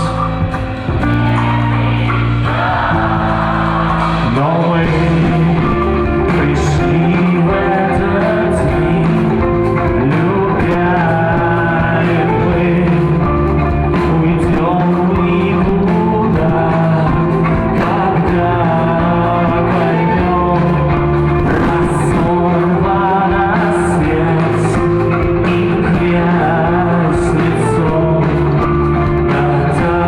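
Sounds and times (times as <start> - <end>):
man singing: 0.0 - 30.0
rock band playing: 0.0 - 30.0.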